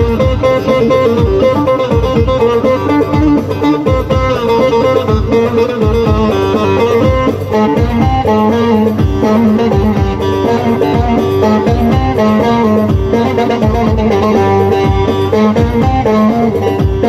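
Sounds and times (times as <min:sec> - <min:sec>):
electric lute picked melody: 0:00.0 - 0:17.0
low drum beat: 0:00.0 - 0:17.0.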